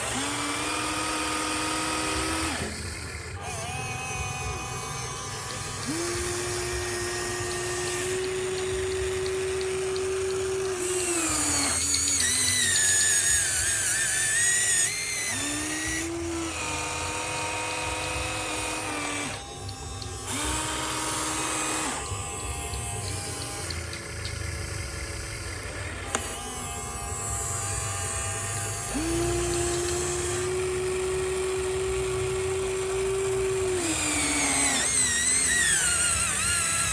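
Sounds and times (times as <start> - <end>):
toy electric motors whining: 0.0 - 36.9.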